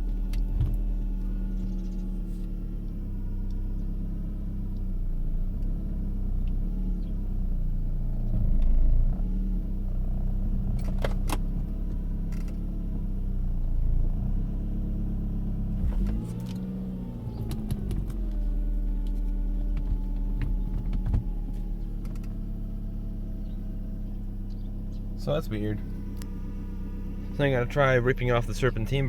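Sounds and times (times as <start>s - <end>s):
car engine with loud whine: 0.0s - 29.0s.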